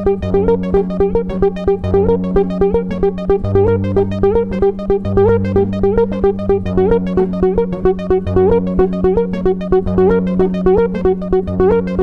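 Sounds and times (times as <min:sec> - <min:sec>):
robotic slide guitar playing: 0:00.0 - 0:12.0.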